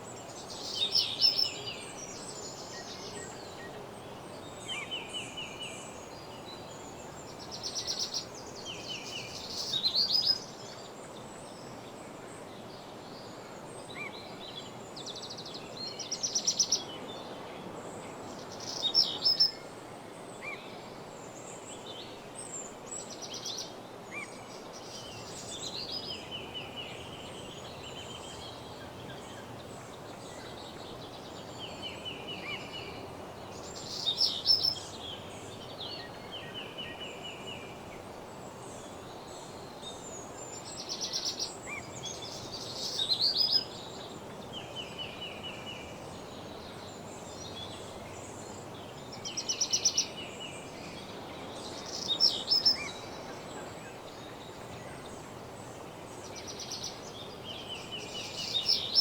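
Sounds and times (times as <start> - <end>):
songbirds singing: 0.0 - 17.4, 18.0 - 59.0
steady background hiss: 0.0 - 59.0.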